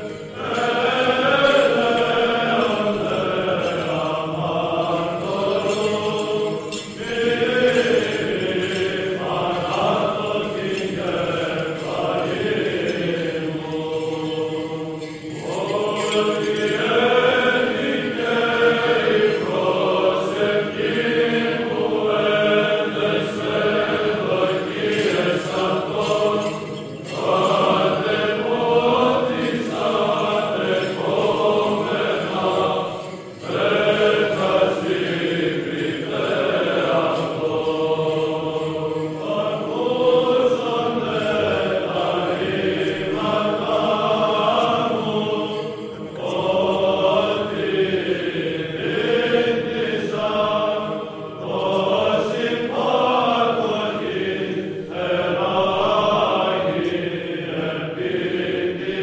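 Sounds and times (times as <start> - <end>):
choir chanting: 0.0 - 59.0.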